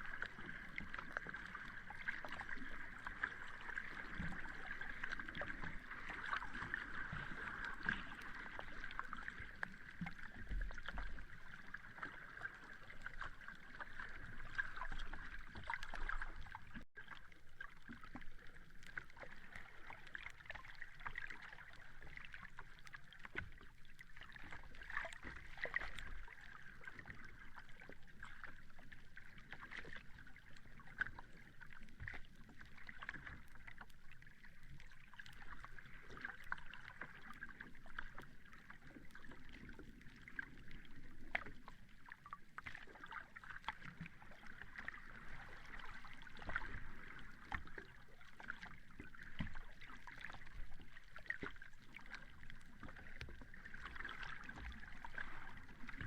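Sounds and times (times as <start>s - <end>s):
sea water washing on a beach: 0.0s - 56.0s.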